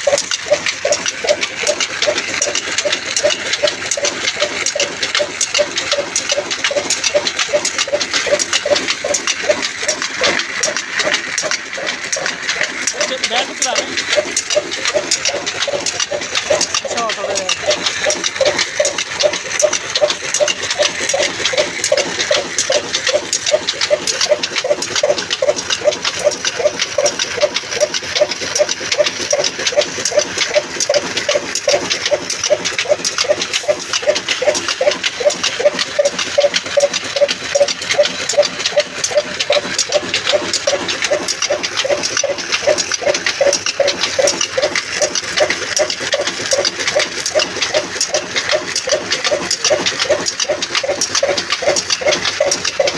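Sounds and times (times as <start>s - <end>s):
belt and pulleys whirring: 0.0s - 52.9s
diesel engine running: 0.0s - 52.9s.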